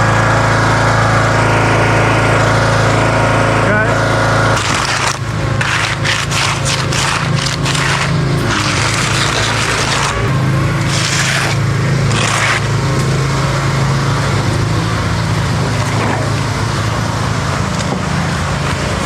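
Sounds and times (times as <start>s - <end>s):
machinery engine running: 0.0s - 19.0s.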